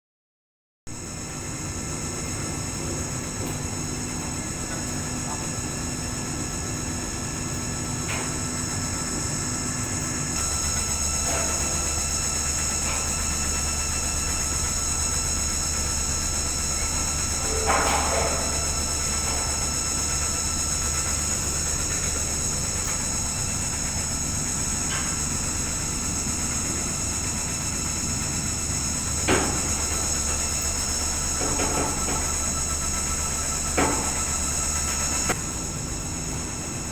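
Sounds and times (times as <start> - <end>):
washing machine motor humming: 0.9 - 36.9.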